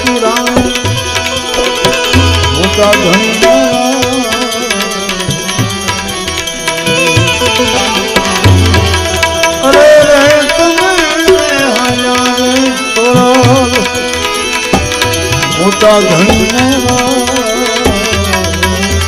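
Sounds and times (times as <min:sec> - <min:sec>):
sliding wavering melody: 0:00.0 - 0:19.0
tabla beat: 0:00.0 - 0:19.0.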